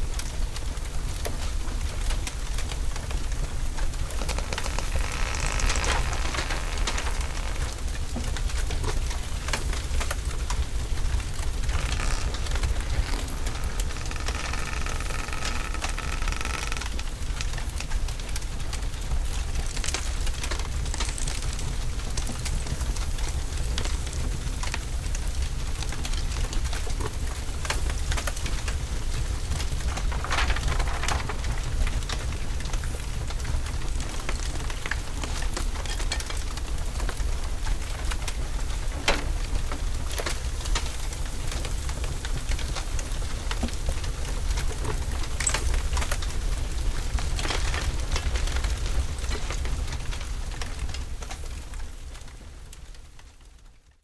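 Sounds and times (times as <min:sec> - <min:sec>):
fire crackling and popping: 0:00.0 - 0:53.4.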